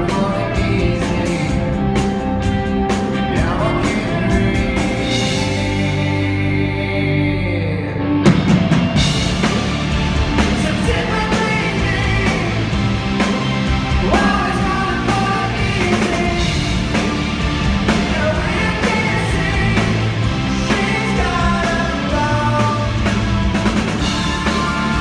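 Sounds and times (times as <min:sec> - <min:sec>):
rock band playing: 0:00.0 - 0:06.3, 0:08.2 - 0:25.0
drums: 0:00.0 - 0:06.9, 0:08.2 - 0:25.0.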